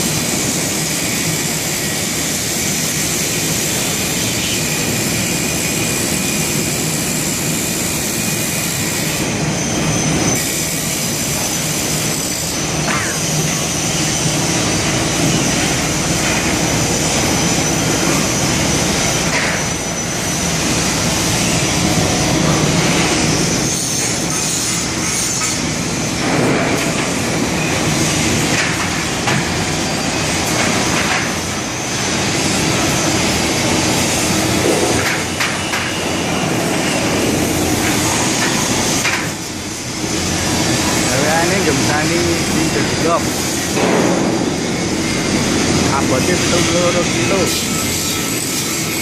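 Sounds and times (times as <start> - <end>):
industrial machinery whine: 0.0 - 49.0.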